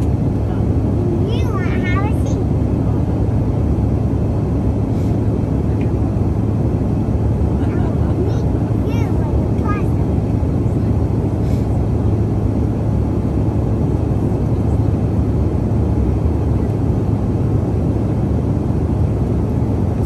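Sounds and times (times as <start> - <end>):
jet cabin drone: 0.0 - 20.0.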